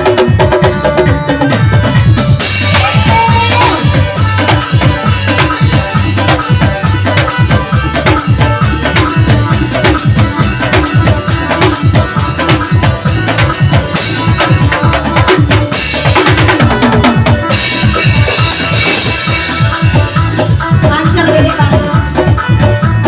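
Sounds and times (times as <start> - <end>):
fast dense drumming: 0.0 - 23.0
high held melody line: 0.0 - 23.0.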